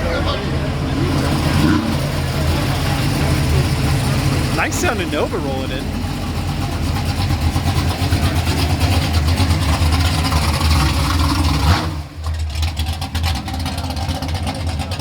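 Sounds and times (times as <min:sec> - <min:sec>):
car engine with loping exhaust: 0:00.0 - 0:15.0.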